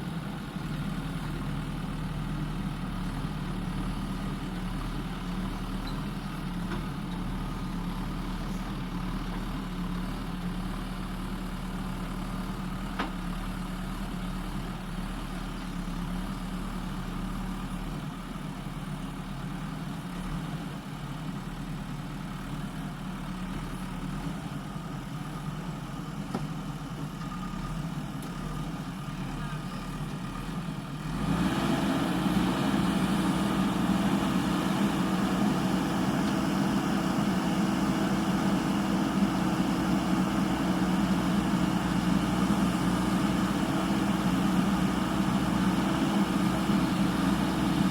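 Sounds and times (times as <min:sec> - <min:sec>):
diesel engine running and revving: 0:00.0 - 0:47.9.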